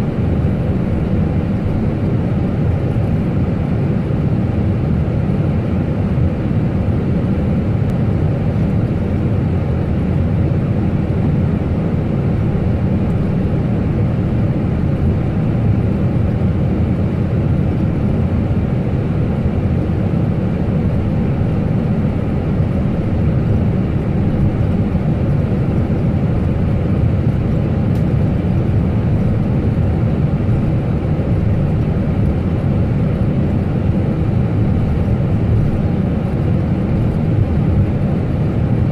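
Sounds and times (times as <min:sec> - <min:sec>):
airliner engine rumble in cockpit: 0:00.0 - 0:38.9.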